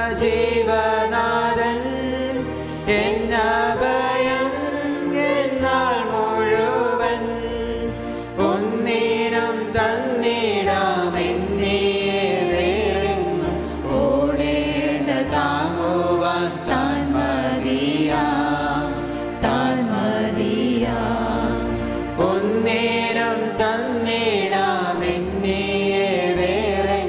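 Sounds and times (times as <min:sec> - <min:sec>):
group singing a hymn: 0:00.0 - 0:27.0
instrumental accompaniment with bass: 0:00.0 - 0:27.0.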